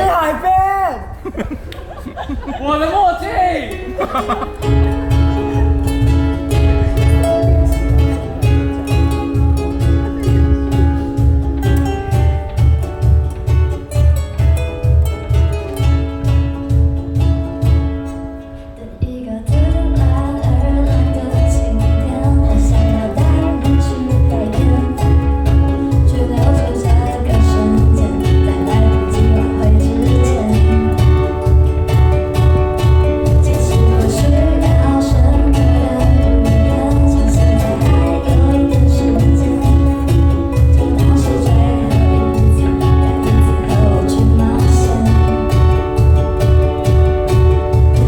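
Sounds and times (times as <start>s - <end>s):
strummed ukuleles: 0.0s - 48.0s
drum kit: 4.0s - 18.4s, 19.5s - 48.0s.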